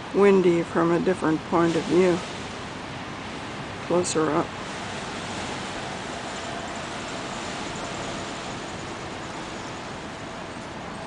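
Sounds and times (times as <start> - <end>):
wind blowing: 0.0 - 11.0.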